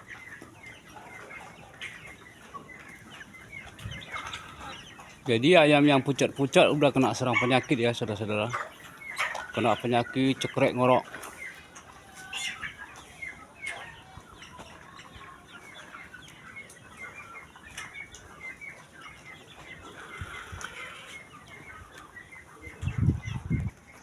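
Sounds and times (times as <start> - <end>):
chickens clucking and peeping: 0.0 - 24.0.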